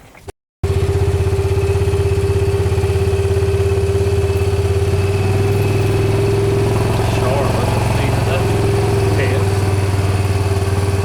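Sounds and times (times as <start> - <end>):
vehicle engine idling: 0.6 - 11.0.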